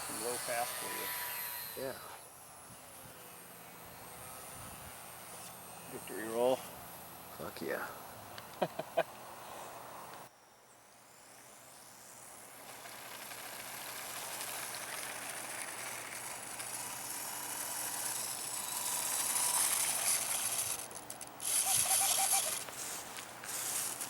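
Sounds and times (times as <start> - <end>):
small rc plane motor buzzing: 0.0 - 10.2, 10.8 - 24.0.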